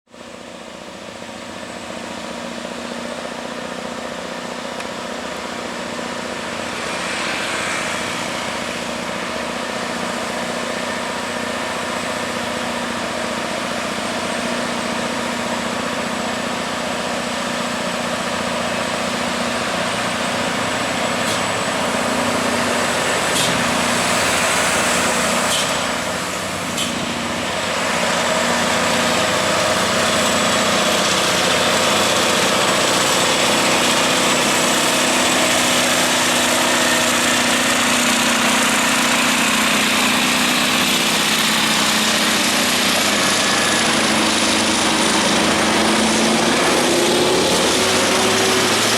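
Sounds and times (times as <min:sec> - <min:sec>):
truck diesel engines roaring: 0:00.2 - 0:48.9.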